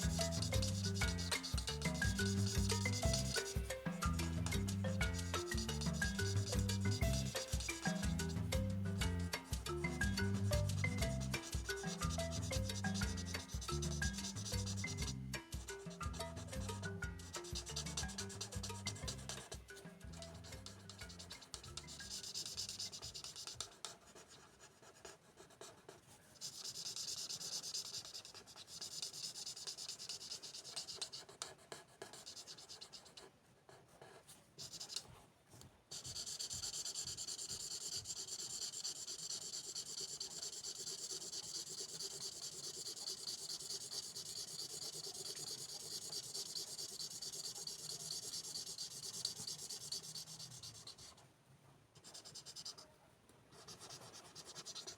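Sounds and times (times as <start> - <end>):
pen scratching on paper: 0.0 - 8.5, 9.5 - 15.2, 17.5 - 19.6, 20.3 - 35.2, 35.9 - 51.2, 52.0 - 52.9, 53.5 - 54.9.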